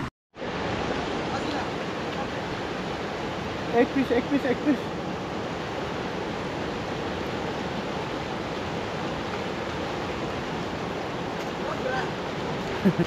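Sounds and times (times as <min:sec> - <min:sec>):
river rushing over rocks: 0:00.4 - 0:13.0.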